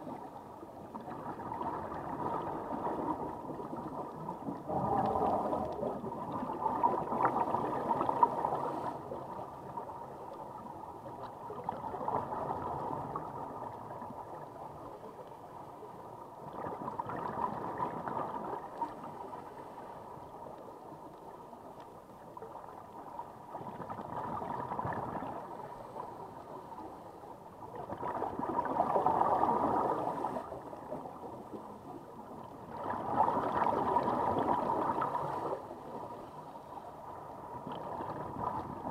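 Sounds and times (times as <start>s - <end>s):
regulator bubbles gurgling underwater: 0.0s - 38.9s.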